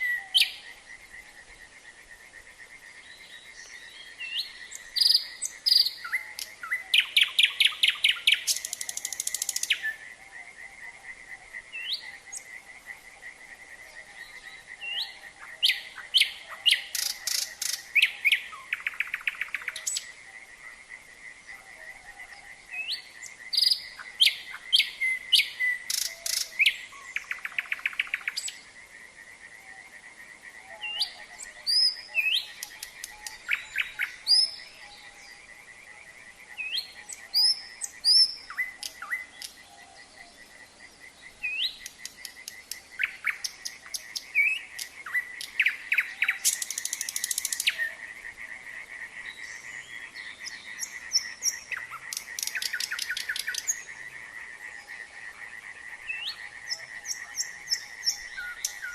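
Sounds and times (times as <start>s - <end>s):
frogs chorus: 0.0s - 58.9s
nightingale singing: 0.0s - 58.9s.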